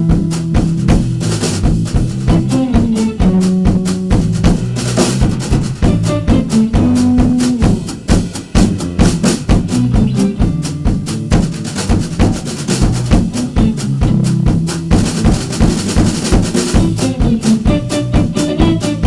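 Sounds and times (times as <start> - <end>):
busy drum kit strokes: 0.0 - 19.0
jazz combo playing: 0.0 - 19.0
moving bass line: 0.0 - 19.0.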